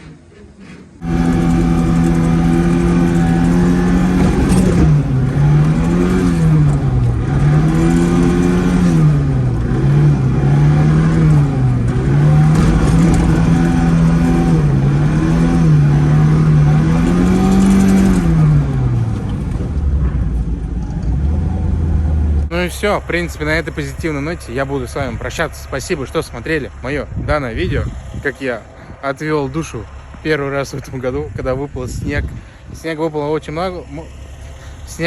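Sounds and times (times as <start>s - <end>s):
car engine revving: 1.0s - 35.0s.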